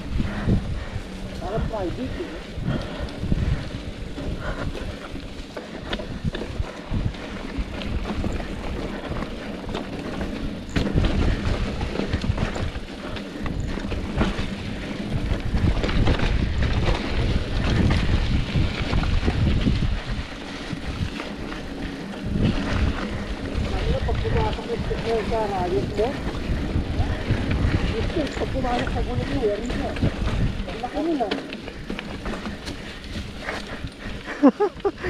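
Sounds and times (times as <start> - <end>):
bike rattling and knocking: 0.0 - 35.0
wind buffeting microphone: 0.0 - 35.0.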